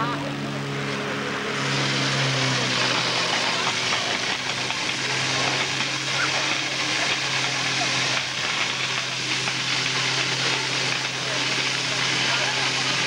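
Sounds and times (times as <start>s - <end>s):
pump engine running: 0.0s - 13.0s
water jets spattering: 1.4s - 13.0s.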